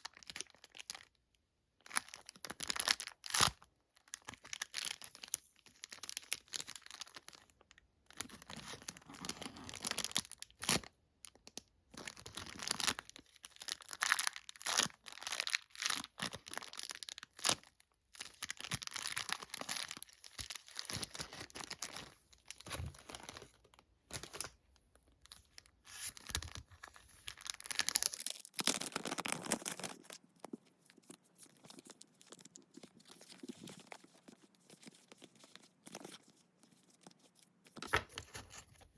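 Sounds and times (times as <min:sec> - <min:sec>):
plastic packaging crinkling and tearing: 0:00.0 - 0:01.2, 0:01.9 - 0:38.9.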